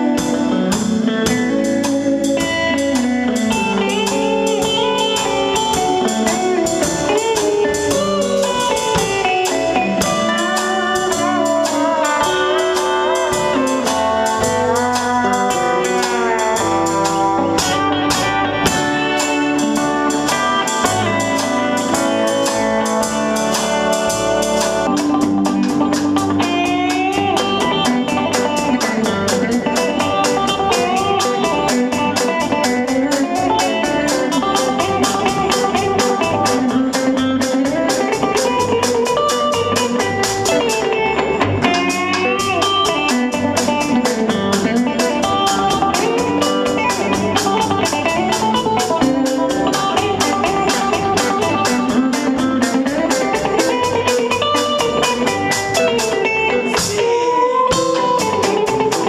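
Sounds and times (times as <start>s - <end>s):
drum kit cymbal beat: 0.0s - 59.0s
electric guitar blues lead: 0.0s - 59.0s.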